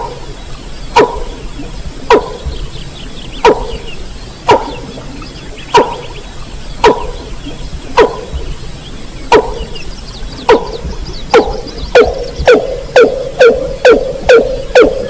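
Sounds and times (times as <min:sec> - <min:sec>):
downward-sweeping bird call: 0:00.0 - 0:15.0.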